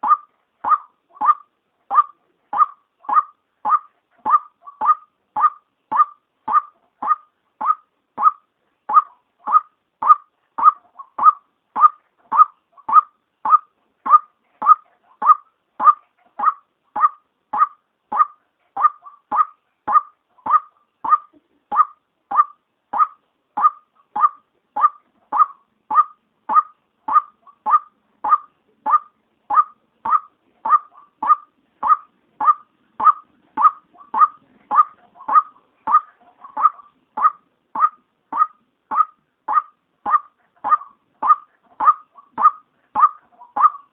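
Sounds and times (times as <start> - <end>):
waterhen calling: 0.0 - 43.9.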